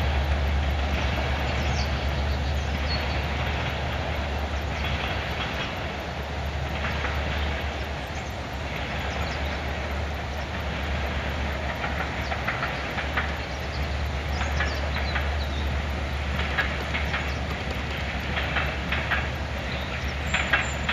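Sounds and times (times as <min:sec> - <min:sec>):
train low hum: 0:00.0 - 0:20.9
train wheels clicking over rail joints: 0:00.0 - 0:20.9.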